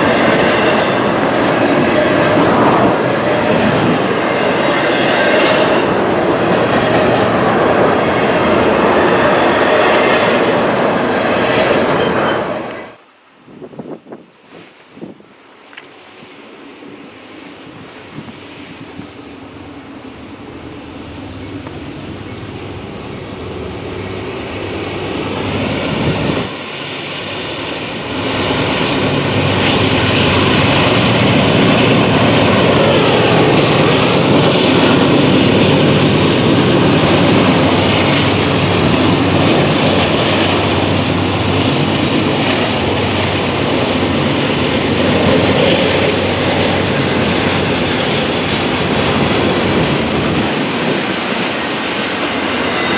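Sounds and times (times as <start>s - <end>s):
diesel locomotive engine drone: 0.0s - 13.1s, 15.1s - 52.9s.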